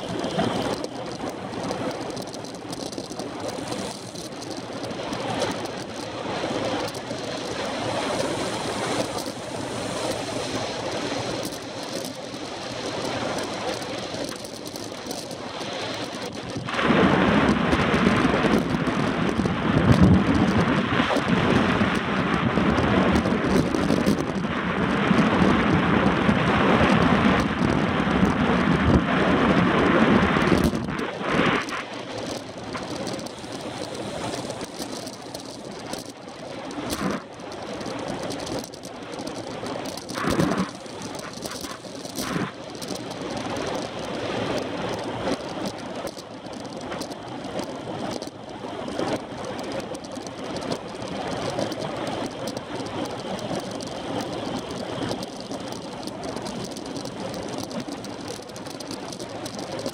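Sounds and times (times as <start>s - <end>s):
bicycle riding noise: 0.0s - 59.9s
wind buffeting microphone: 0.0s - 59.9s.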